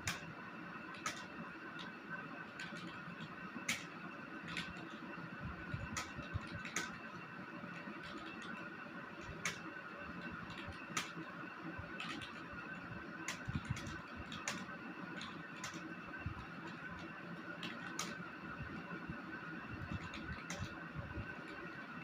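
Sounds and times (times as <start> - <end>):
background hum: 0.0 - 22.0.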